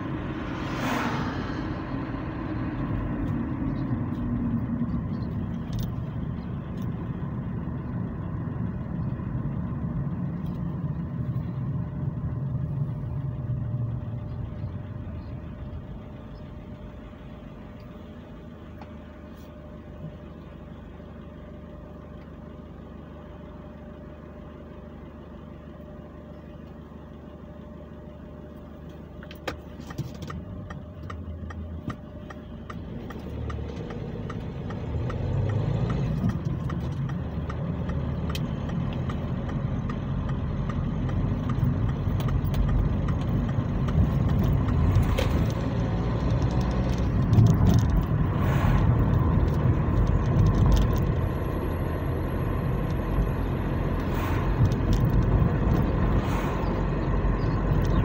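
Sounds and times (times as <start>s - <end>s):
car engine idling: 0.0s - 58.0s
road and engine noise in car cabin: 0.0s - 58.0s.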